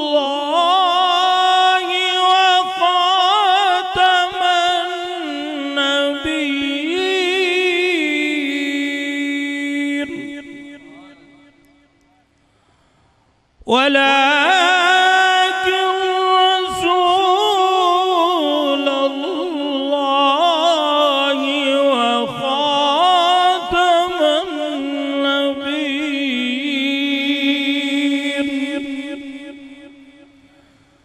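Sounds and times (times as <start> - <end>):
man reciting melodically: 0.0 - 12.4, 13.6 - 31.0.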